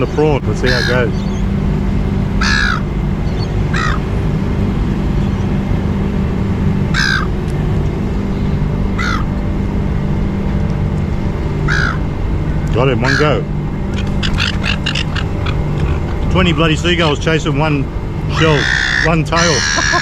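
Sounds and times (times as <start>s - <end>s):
seagulls calling: 0.0s - 6.0s, 6.7s - 9.6s, 11.5s - 20.0s
low background rumble: 0.0s - 20.0s.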